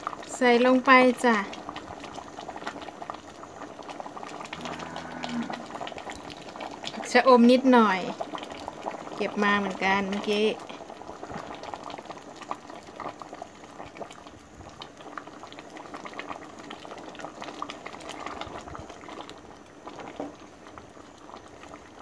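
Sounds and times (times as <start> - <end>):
curry bubbling at a boil: 0.0 - 22.0.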